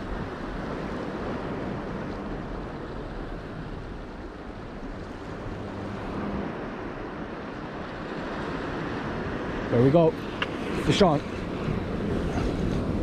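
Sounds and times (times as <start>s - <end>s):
wind: 0.0s - 13.0s
wind buffeting microphone: 0.0s - 13.0s.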